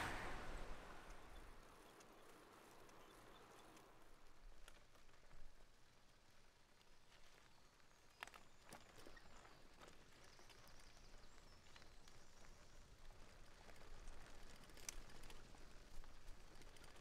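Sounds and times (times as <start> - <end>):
faint outdoor ambience: 0.0 - 17.0.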